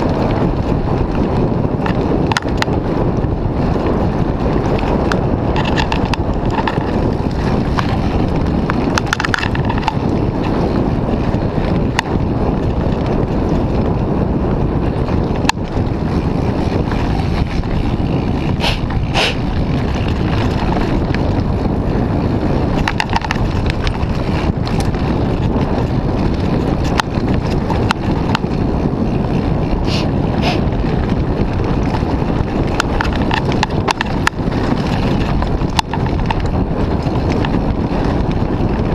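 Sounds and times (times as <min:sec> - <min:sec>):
bike clicks and rattles: 0:00.0 - 0:38.9
tyres rumbling on dirt trail: 0:00.0 - 0:38.9
wind rushing over microphone: 0:00.0 - 0:38.9.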